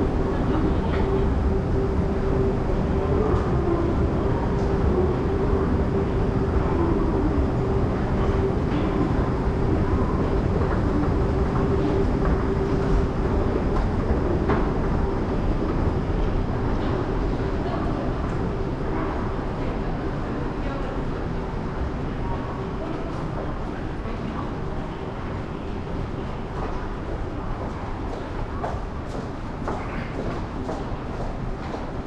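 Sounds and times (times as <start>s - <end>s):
steady hum: 0.0s - 32.0s
train low rumble: 0.0s - 32.0s.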